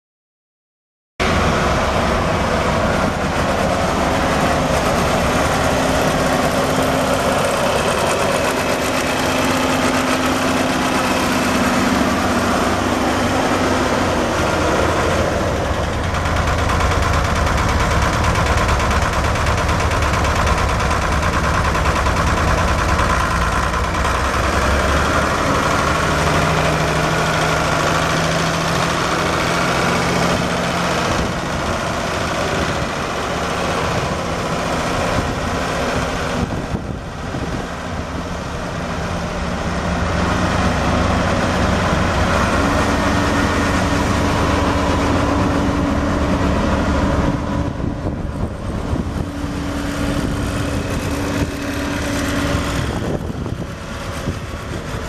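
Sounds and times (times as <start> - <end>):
tractor diesel engine running: 1.2 - 55.0.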